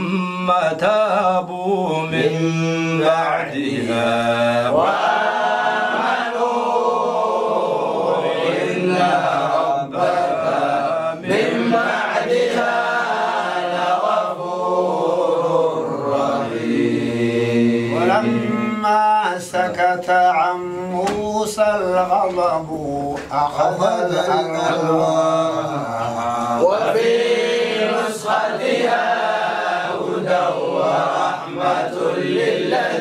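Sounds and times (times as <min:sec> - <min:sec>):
man chanting melodically: 0:00.0 - 0:05.4, 0:06.0 - 0:29.0.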